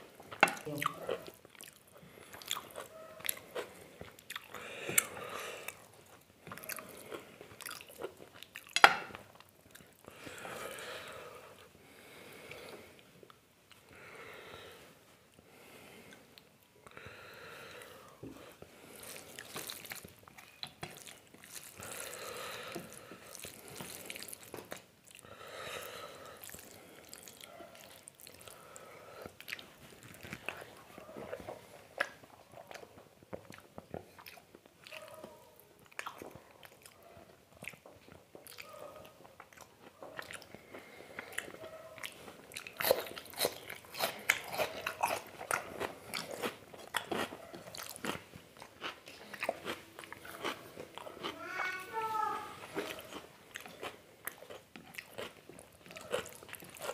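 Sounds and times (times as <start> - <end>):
wet chewing and mouth smacking: 0.2 - 11.7, 17.6 - 25.4, 26.2 - 51.5, 52.6 - 56.9.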